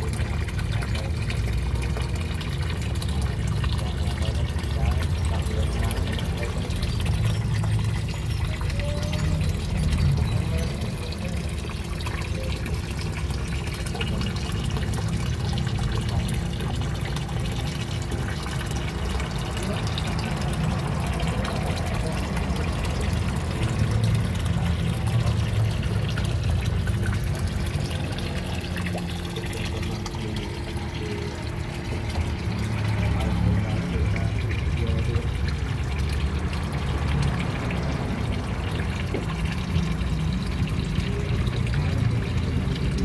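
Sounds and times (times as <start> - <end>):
water bubbling in fish tank: 0.0 - 43.0.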